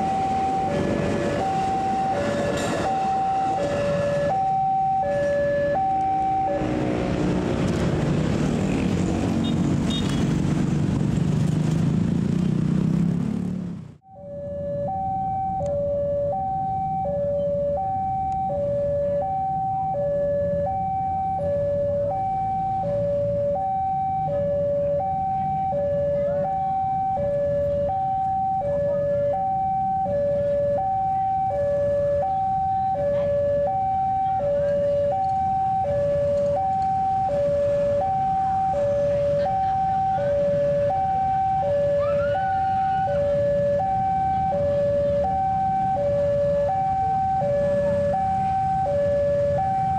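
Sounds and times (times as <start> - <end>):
road traffic rumbling: 0.0 - 49.9.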